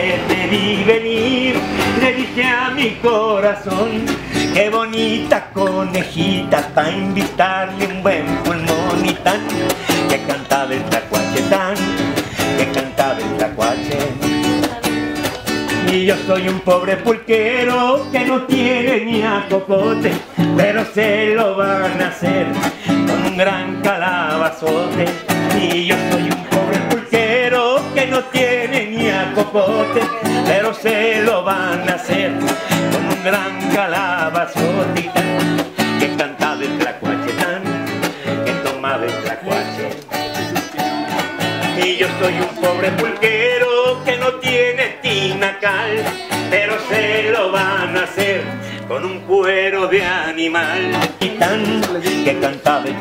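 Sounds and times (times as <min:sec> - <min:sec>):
acoustic guitar strumming: 0:00.0 - 0:53.0
person singing: 0:00.0 - 0:53.0.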